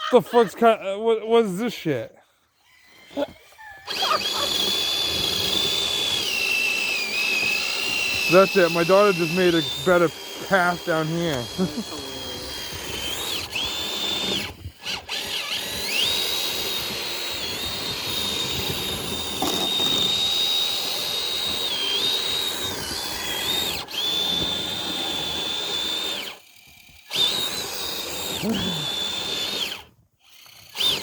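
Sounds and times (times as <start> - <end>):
electric motor and gears whining: 2.8 - 31.0.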